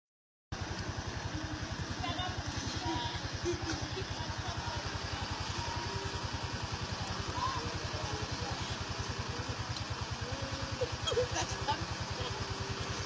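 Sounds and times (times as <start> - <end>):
small engine idling: 0.5 - 13.0.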